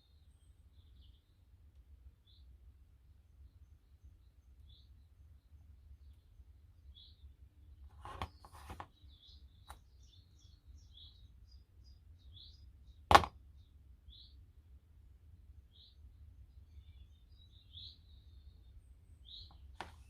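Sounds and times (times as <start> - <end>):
small bird chirping: 0.0 - 2.6, 3.3 - 14.5, 15.6 - 20.0
faint low hum: 0.0 - 20.0.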